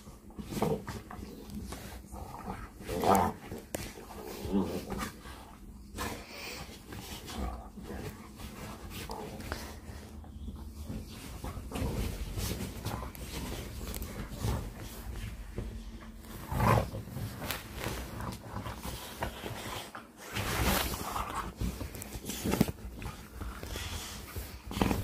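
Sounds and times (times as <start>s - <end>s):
bedding rustling: 0.0s - 25.0s
dogs growling: 0.0s - 25.0s.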